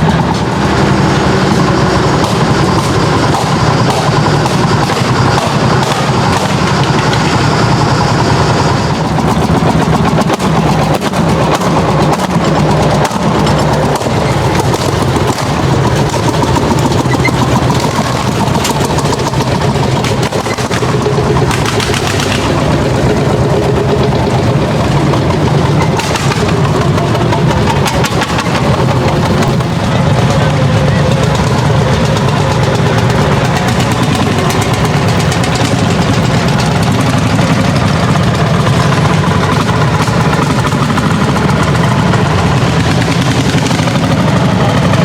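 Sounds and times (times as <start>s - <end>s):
tractor engine under load: 0.0s - 45.0s.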